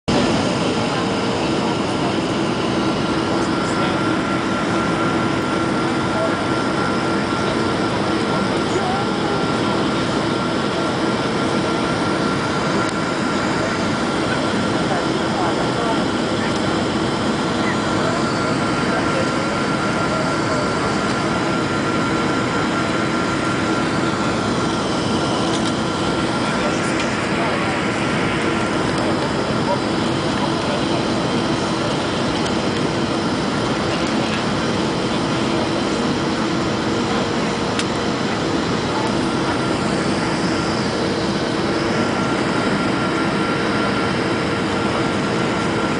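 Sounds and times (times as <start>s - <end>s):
jet engines and airflow rush: 0.0s - 45.9s.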